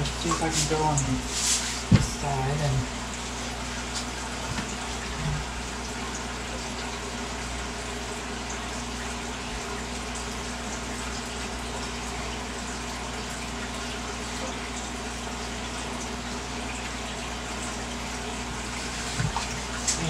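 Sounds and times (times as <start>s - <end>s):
aquarium air stones bubbling: 0.0s - 20.0s.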